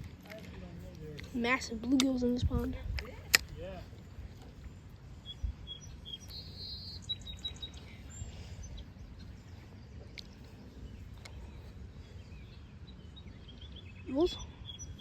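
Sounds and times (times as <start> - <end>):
faint low outdoor rumble: 0.0 - 15.0
songbirds chirping: 0.0 - 15.0.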